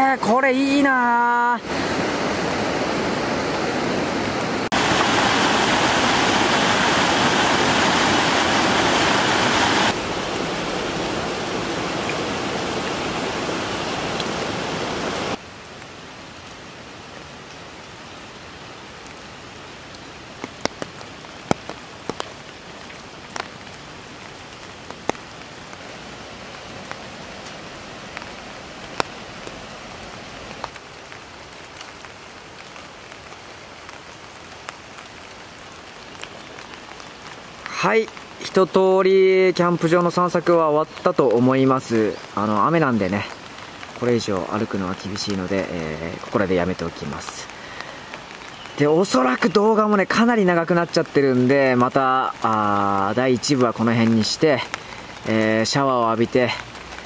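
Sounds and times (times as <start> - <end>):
light rain: 0.0 - 57.0
river water over cascade: 0.0 - 57.0.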